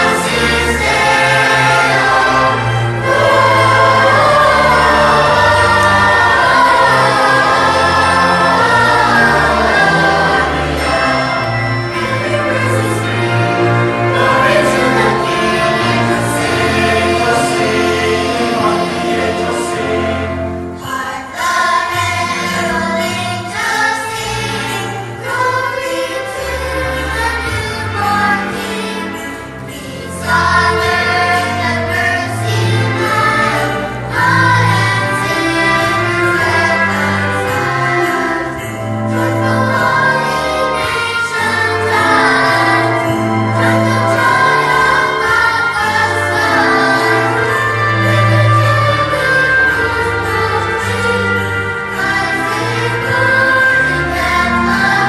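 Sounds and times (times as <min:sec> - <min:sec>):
choir singing: 0:00.0 - 0:55.0
instrumental accompaniment: 0:00.0 - 0:55.0.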